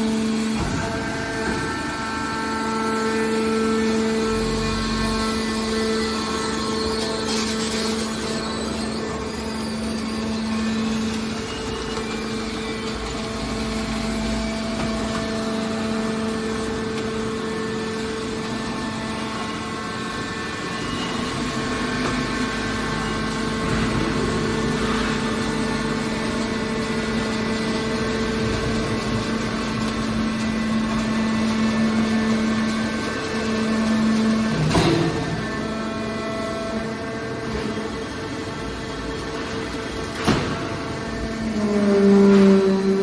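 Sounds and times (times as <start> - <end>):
hydraulic baler humming: 0.0 - 43.0.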